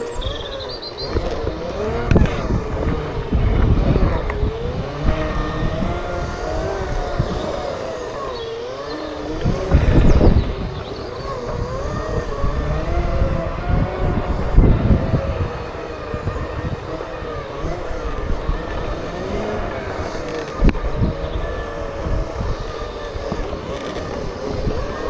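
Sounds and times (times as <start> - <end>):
bump: 0.0 - 25.0
electric motors whining: 0.0 - 25.0.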